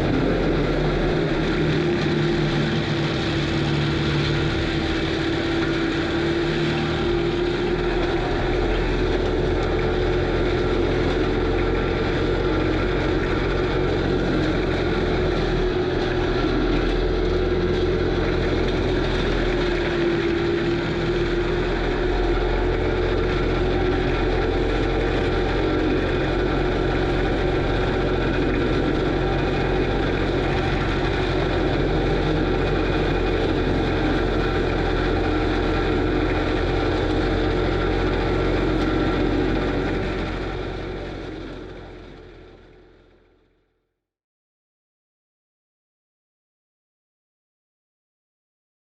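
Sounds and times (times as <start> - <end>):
forestry mulcher running under load: 0.0 - 43.4
diesel engine rumble: 0.0 - 43.5.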